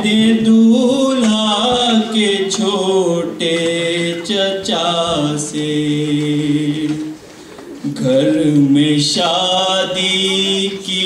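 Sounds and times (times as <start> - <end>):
man chanting a lament: 0.0 - 7.2, 7.9 - 11.0.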